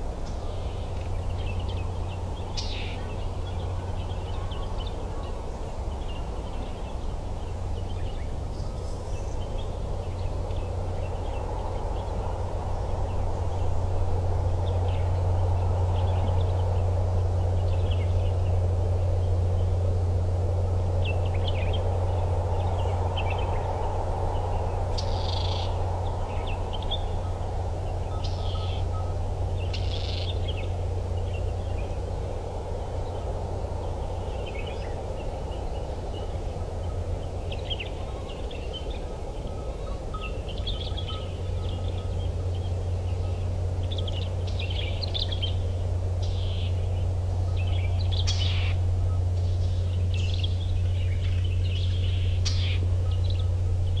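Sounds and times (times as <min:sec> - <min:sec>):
small birds chirping: 0:00.0 - 0:54.0
steady low drone: 0:00.0 - 0:54.0.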